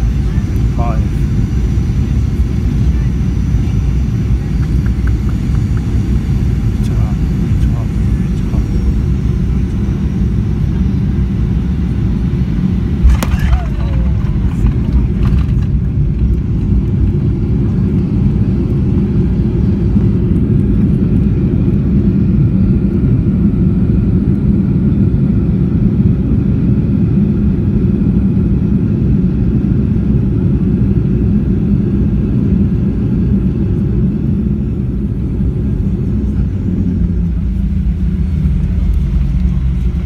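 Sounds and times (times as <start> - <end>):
airplane cabin engine rumble: 0.0 - 40.0
faint engine whine: 0.0 - 40.0.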